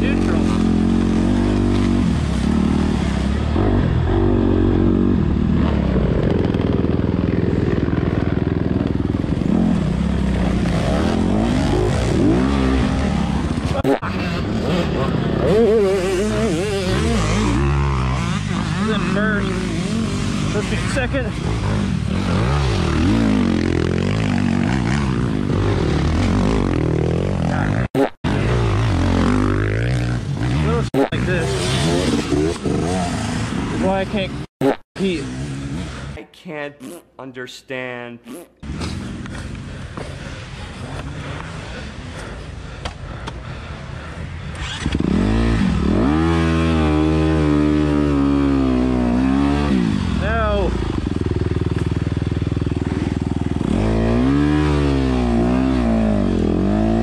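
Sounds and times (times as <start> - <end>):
dirt bike engine revving: 0.0 - 36.2, 38.2 - 42.4, 43.1 - 57.0.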